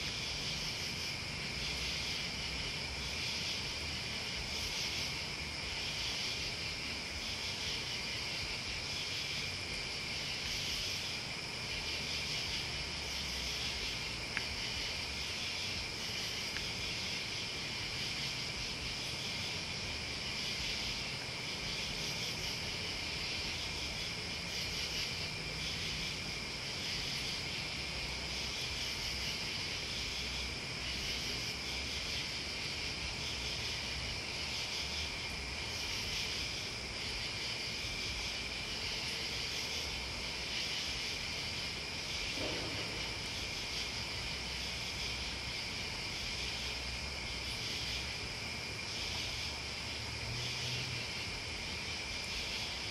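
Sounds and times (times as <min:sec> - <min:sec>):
crickets and insects trilling: 0:00.0 - 0:52.9.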